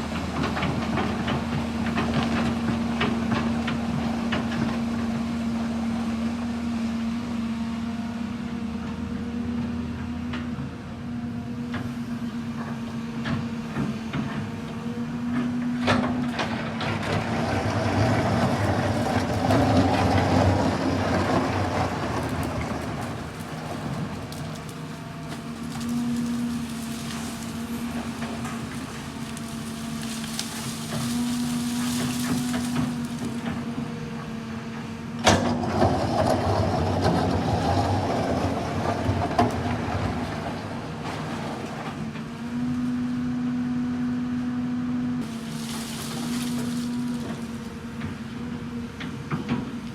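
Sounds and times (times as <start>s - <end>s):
heavy construction machine engine: 0.0s - 49.9s.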